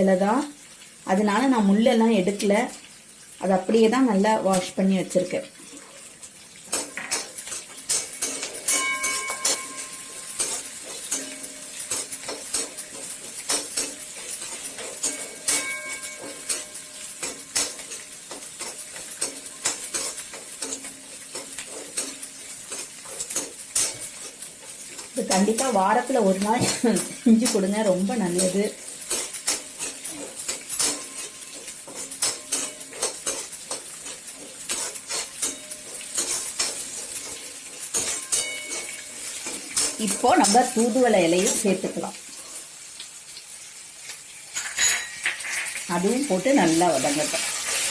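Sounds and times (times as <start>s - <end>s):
food sizzling in oil: 0.0s - 47.9s
metal spoon scraping a pan: 5.8s - 42.8s, 44.0s - 47.9s.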